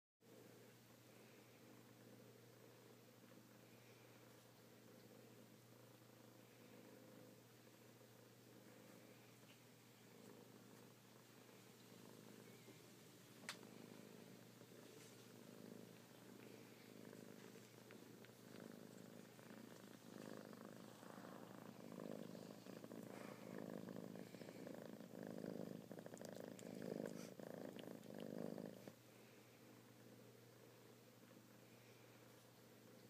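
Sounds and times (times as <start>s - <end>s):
cat purring: 0.2s - 33.0s.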